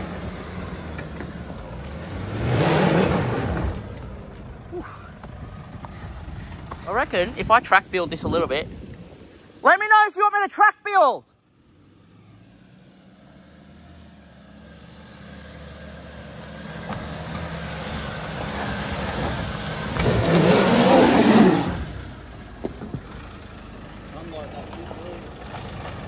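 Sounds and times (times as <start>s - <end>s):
engine revving under load: 0.0s - 7.4s, 11.6s - 26.0s.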